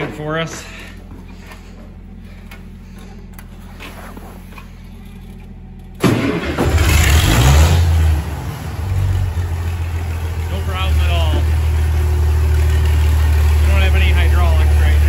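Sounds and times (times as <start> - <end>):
tractor engine starting and idling: 0.0 - 15.0.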